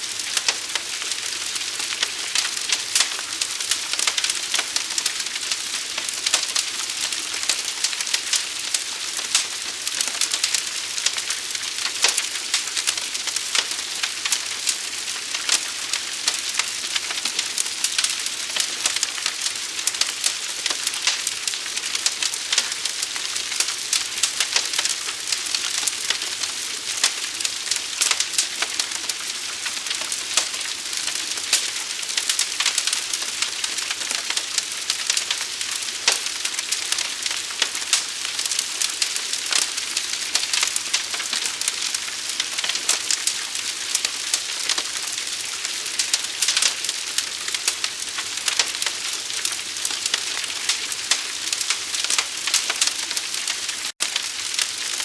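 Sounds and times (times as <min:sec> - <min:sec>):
wood fire crackling and hissing: 0:00.0 - 0:55.0.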